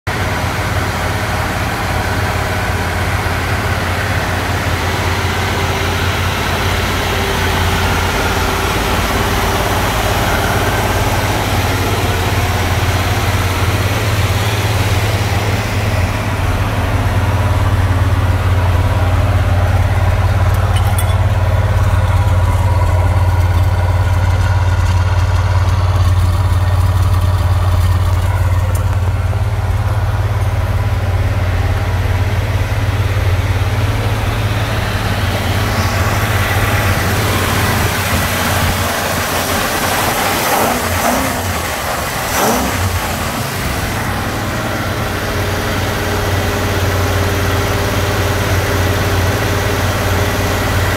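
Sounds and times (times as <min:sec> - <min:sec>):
car engine idling: 0:00.1 - 0:50.9.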